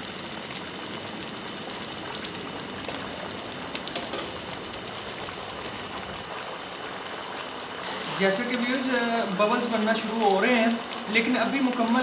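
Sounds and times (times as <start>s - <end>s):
rice boiling in a pot: 0.0s - 12.0s.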